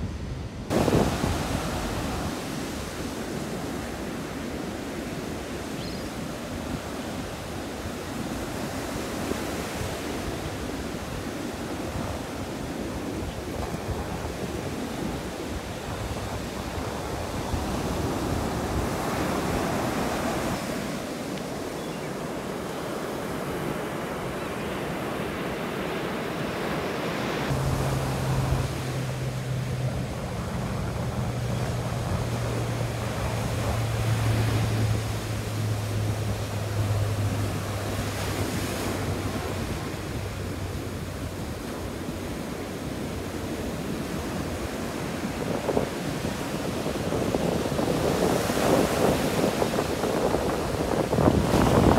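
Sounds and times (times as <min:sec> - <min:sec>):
ocean surf breaking: 0:00.0 - 0:51.9
wind on microphone: 0:00.0 - 0:51.9.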